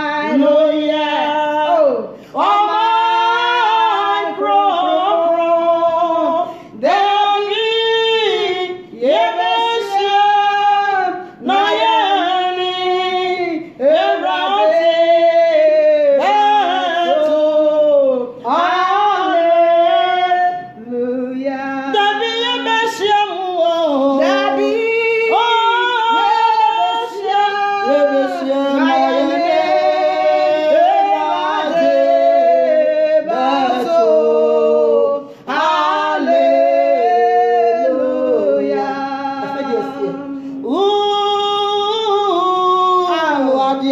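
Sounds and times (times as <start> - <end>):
women singing unaccompanied: 0.0 - 43.9.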